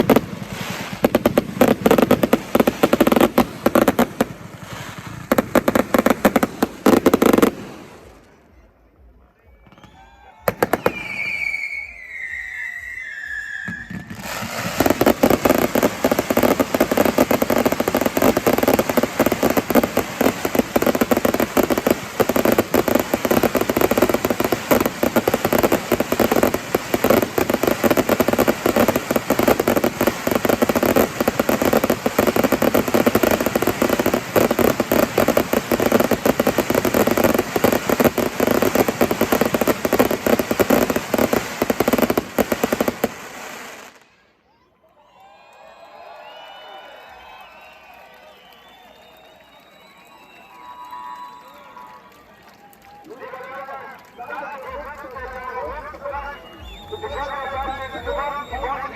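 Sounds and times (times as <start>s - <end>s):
fireworks bangs and crackling: 0.0s - 44.2s, 52.6s - 58.9s.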